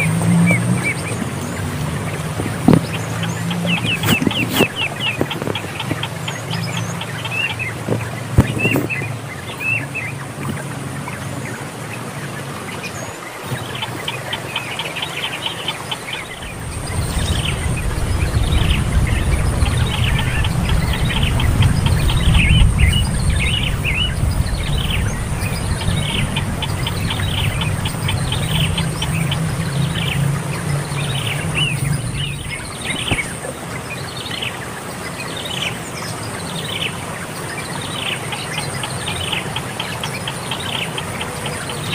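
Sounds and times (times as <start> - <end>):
low rumbling noise: 0.0 - 38.0
bird chirping: 0.0 - 41.9.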